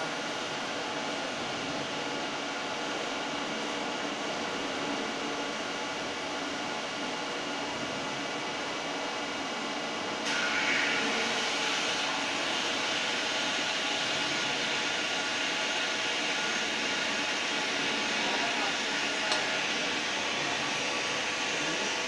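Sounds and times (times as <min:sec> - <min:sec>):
machine running steadily: 0:00.0 - 0:22.0.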